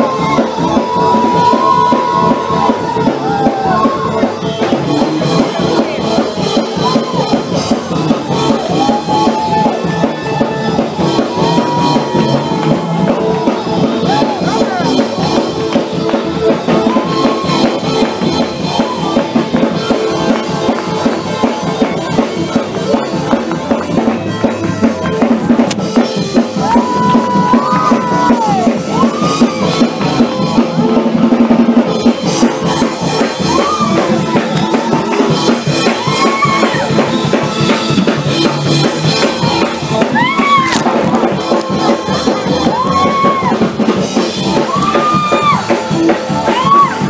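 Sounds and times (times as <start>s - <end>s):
fast drum kit playing: 0.0s - 47.0s
held chords: 0.0s - 47.0s.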